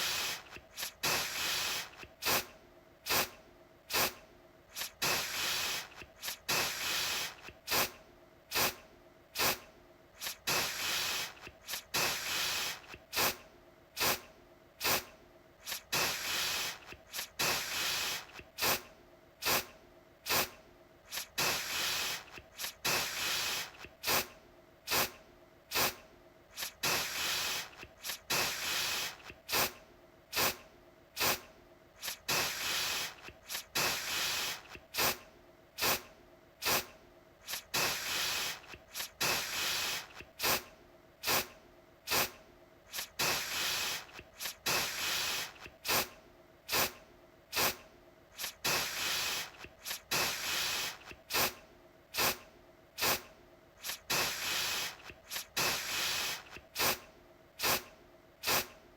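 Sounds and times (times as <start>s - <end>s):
aerosol can spraying: 0.0s - 8.8s, 9.4s - 9.6s, 10.2s - 13.4s, 14.0s - 19.7s, 20.3s - 24.3s, 24.9s - 30.6s, 31.2s - 35.2s, 35.8s - 41.5s, 42.1s - 46.1s, 46.7s - 47.8s, 48.4s - 51.6s, 52.2s - 52.4s, 53.0s - 57.0s, 57.6s - 58.7s.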